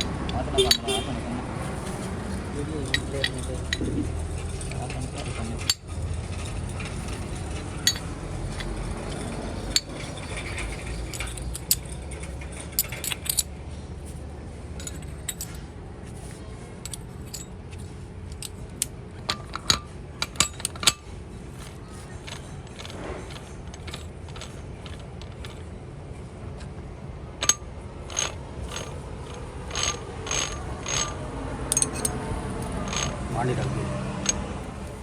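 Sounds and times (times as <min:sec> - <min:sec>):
metal tools clinking: 0:00.0 - 0:25.7, 0:27.4 - 0:35.0.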